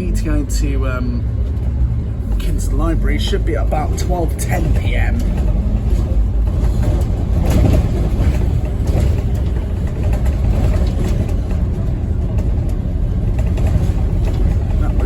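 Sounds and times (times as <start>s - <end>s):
diesel engine rumble: 0.0s - 15.0s
road noise: 0.0s - 15.0s.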